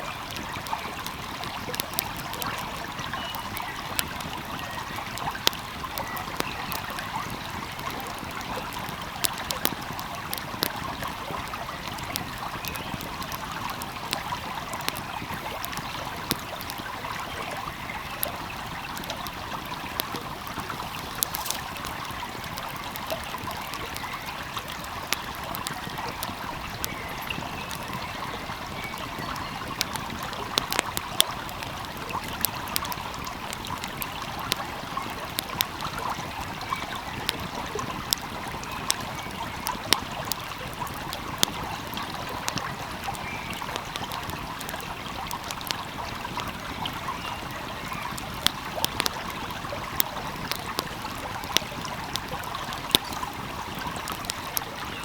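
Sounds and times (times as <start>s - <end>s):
stream flowing: 0.0s - 55.0s
wood fire crackling: 0.0s - 55.0s.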